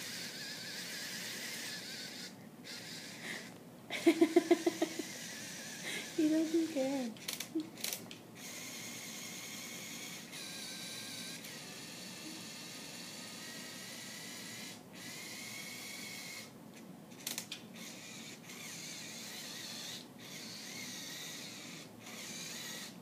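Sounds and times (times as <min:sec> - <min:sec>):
small electric motors whirring: 0:00.0 - 0:23.0.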